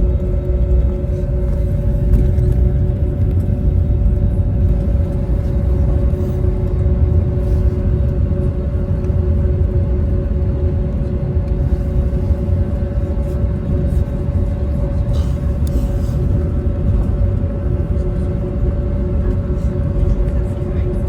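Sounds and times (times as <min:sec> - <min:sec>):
aircraft cabin rumble: 0:00.0 - 0:21.0
steady humming tones: 0:00.0 - 0:21.0.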